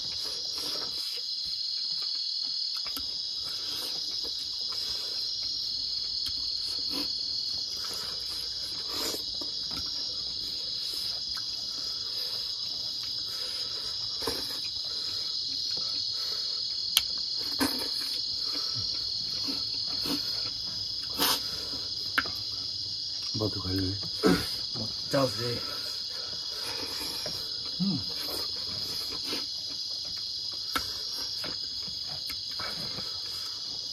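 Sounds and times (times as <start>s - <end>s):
wet chewing and eating sounds: 0.0s - 24.6s, 26.0s - 33.9s
insects chirping: 0.0s - 33.9s.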